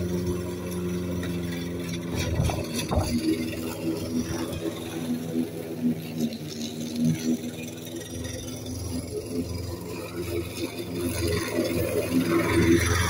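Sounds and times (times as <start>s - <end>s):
ride-on lawnmower engine running: 0.0s - 13.0s.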